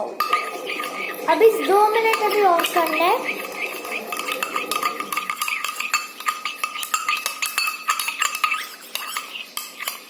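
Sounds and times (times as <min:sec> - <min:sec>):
spoon stirring sticky slime: 0:00.1 - 0:10.0
spoon clinking and scraping container: 0:00.2 - 0:10.0.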